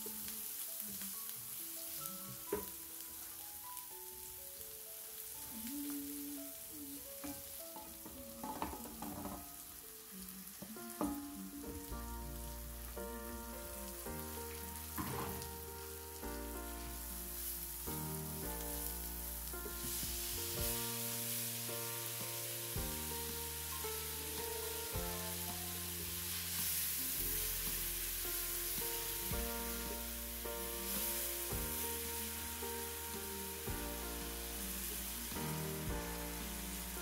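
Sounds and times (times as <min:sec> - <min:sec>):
background music: 0:00.0 - 0:37.0
onion and mince sizzling: 0:00.0 - 0:37.0.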